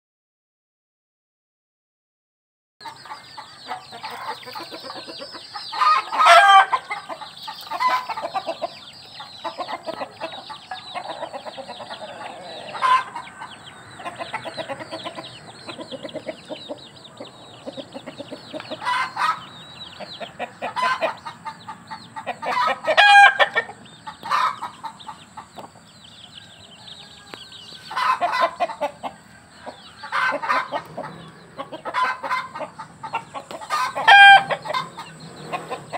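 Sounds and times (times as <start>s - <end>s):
chickens clucking: 2.8s - 35.9s.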